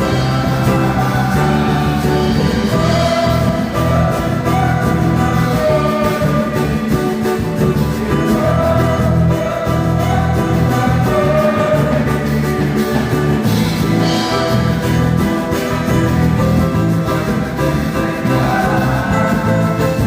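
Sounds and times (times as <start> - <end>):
person singing: 0.0 - 20.0
worship music with guitar: 0.0 - 20.0.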